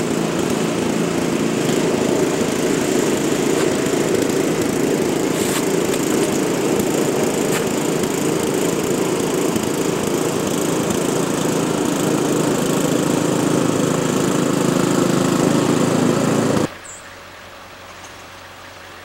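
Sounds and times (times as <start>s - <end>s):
small engine running: 0.0s - 16.8s.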